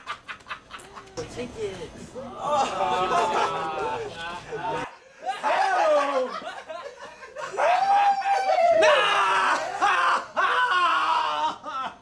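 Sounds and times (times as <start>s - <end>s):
people laughing and snickering: 2.3s - 12.0s.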